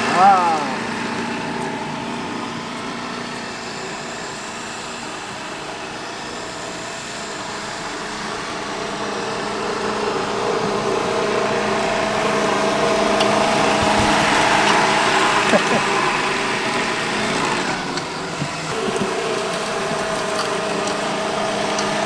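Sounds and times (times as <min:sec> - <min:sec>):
reel mower running: 0:00.0 - 0:22.0.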